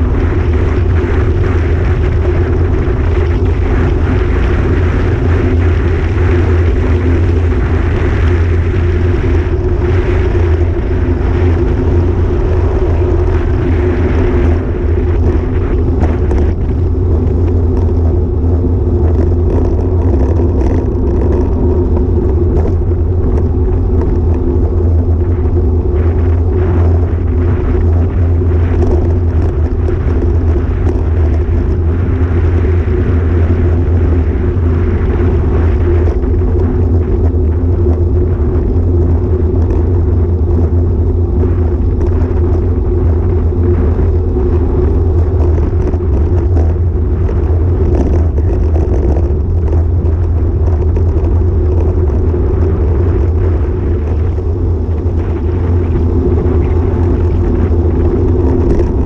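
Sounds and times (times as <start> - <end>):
bike road noise: 0.0 - 59.0
wind rumble on microphone: 0.0 - 59.0.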